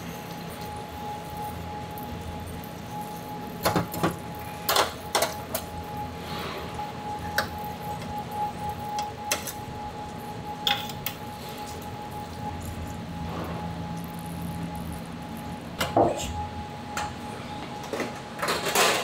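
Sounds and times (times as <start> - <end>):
steady kitchen hum: 0.0 - 19.0.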